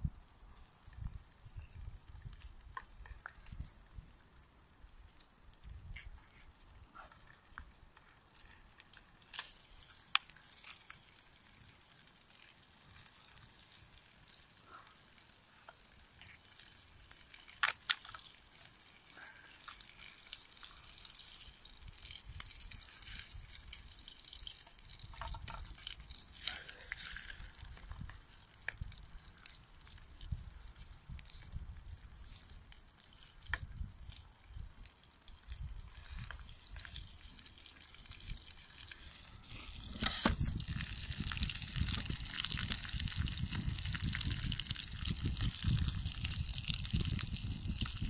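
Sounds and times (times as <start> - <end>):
wood fire crackling: 0.0 - 48.0
faint sizzle from pan: 0.3 - 48.0
sharp pops from fire: 4.9 - 48.0.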